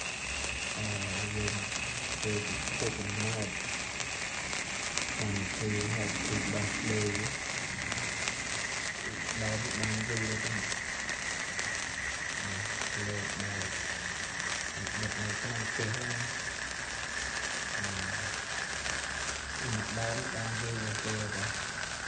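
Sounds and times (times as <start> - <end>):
sparkler hissing and crackling: 0.0 - 22.0.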